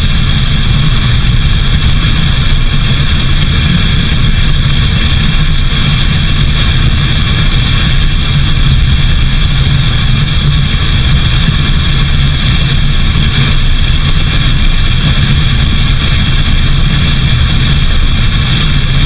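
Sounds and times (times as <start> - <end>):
vehicle driving road noise: 0.0 - 19.0.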